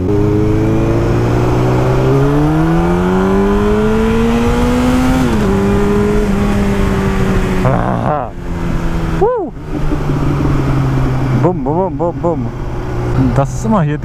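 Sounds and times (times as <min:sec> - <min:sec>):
wind rushing over microphone: 0:00.0 - 0:13.4
motorcycle engine accelerating: 0:00.0 - 0:14.0.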